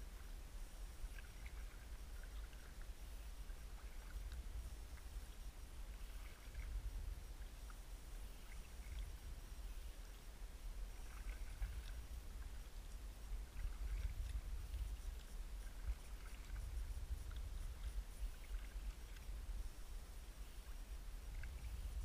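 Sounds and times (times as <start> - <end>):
paddle splashing water: 0.0 - 22.0
steady low rumble: 0.0 - 22.0.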